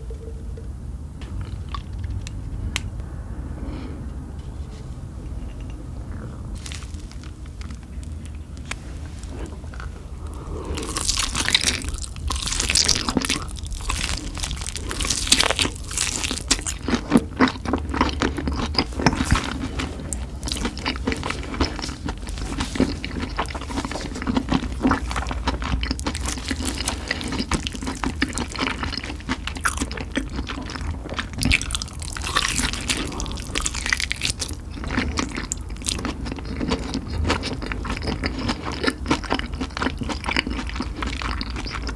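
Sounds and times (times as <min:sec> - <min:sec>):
person chewing with crunches: 0:03.6 - 0:41.9.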